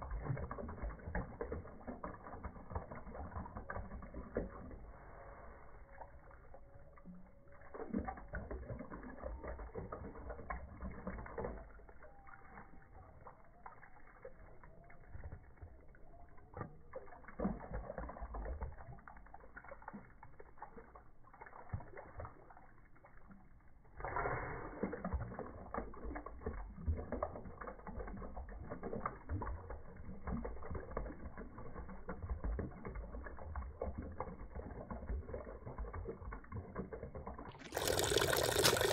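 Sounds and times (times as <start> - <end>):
dog snapping and lapping water: 0.0 - 5.3, 5.9 - 38.9
water splashing: 0.0 - 38.9.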